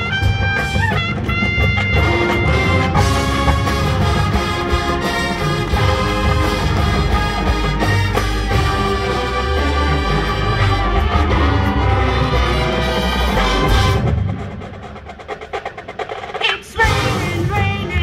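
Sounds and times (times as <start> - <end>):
marching band horns sustaining chords: 0.0 - 14.5
drums: 0.0 - 18.0.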